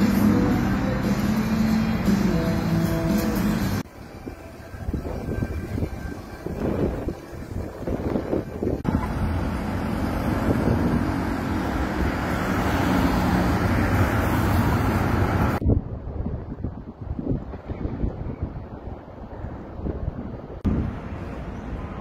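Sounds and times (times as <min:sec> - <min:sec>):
electric tram passing: 0:00.0 - 0:15.6, 0:18.6 - 0:22.0
wind gusting on microphone: 0:04.1 - 0:22.0.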